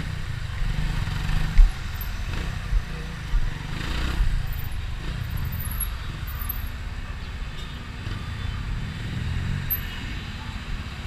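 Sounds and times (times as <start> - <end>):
motorcycle engine rumbling: 0.0 - 10.6.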